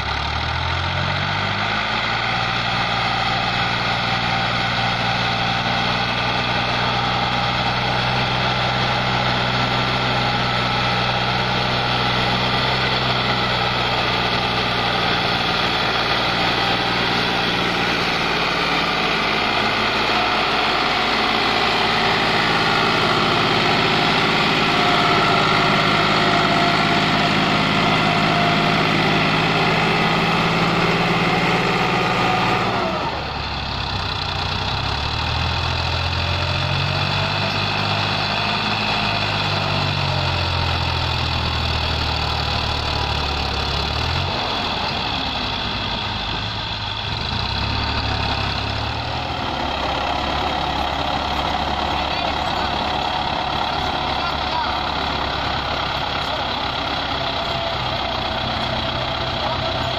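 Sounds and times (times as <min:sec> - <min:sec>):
tractor diesel engine working hard: 0:00.0 - 0:59.9.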